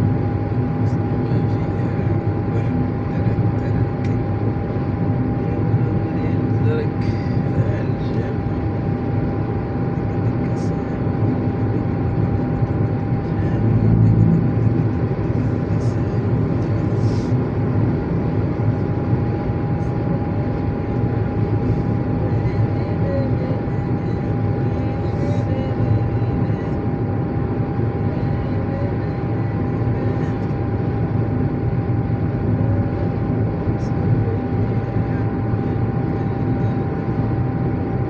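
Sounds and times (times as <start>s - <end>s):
mechanical drone with hum: 0.0s - 38.0s.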